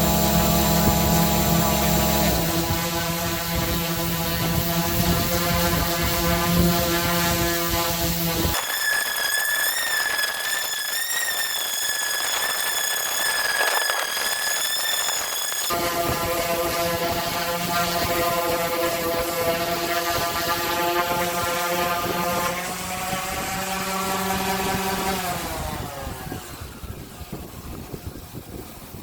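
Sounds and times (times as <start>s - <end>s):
power tool motor hum: 0.0s - 26.7s
high-pitched power tool whine: 0.0s - 29.0s.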